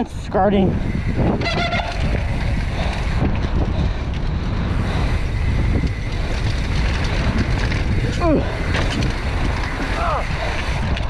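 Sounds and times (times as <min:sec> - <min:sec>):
wind buffeting microphone: 0:00.0 - 0:11.0
bike rattling and knocking: 0:00.7 - 0:11.0
bike rolling over dirt trail: 0:00.8 - 0:11.0.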